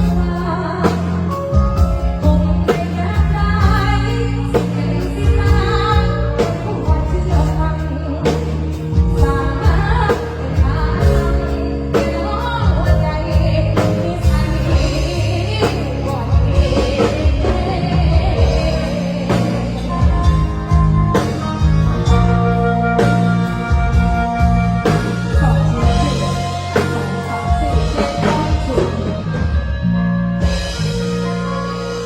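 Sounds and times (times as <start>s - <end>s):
woman singing: 0.0s - 29.8s
electric bass line: 0.0s - 32.0s.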